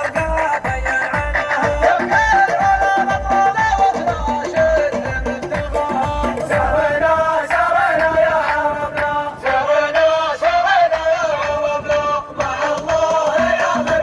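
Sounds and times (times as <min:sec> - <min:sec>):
backing music: 0:00.0 - 0:14.0
man chanting a melody: 0:00.0 - 0:14.0.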